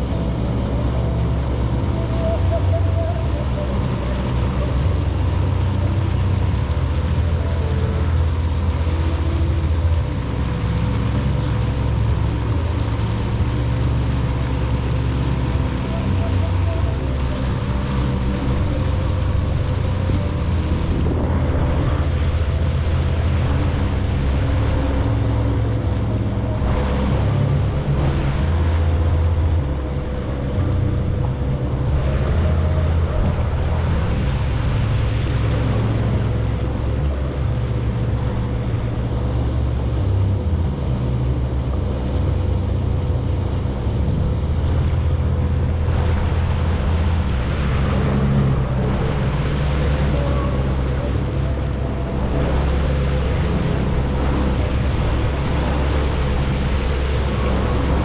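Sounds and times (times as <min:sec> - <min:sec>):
jet ski engine whine: 0:00.0 - 0:58.0
water splashing against hull: 0:00.0 - 0:58.0.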